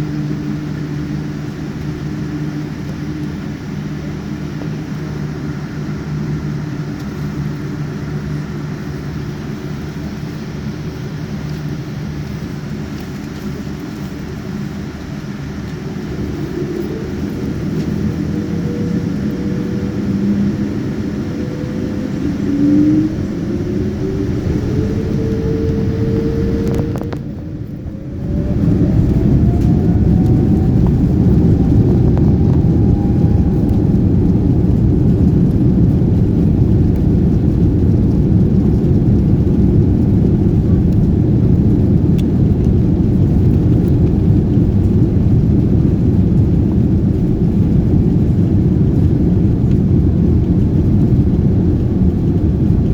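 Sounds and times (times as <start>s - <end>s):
jet engines spooling up: 0.0s - 52.9s.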